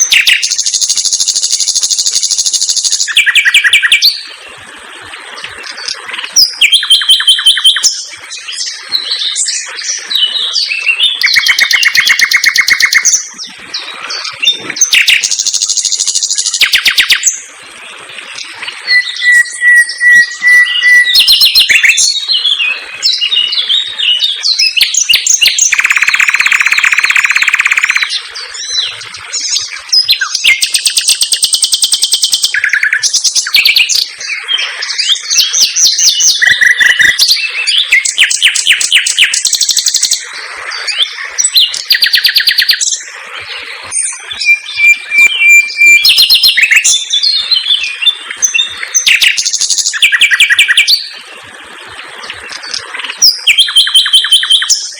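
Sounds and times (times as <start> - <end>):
nightingale singing: 0.0 - 4.3, 6.2 - 17.5, 18.8 - 51.2, 52.4 - 54.9.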